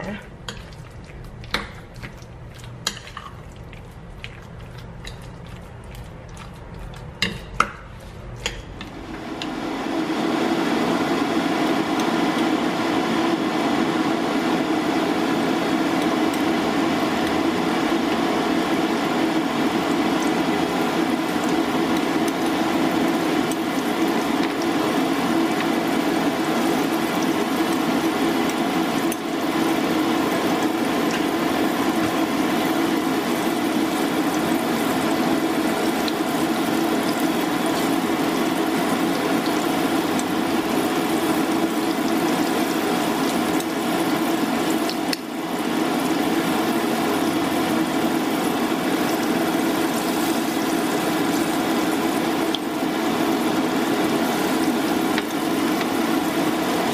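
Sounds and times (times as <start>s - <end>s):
food deep-frying in sizzling oil: 0.0s - 56.9s.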